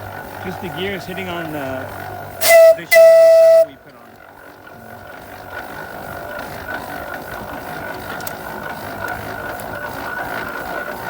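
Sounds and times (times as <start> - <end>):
steam traction engine running: 0.0 - 11.0.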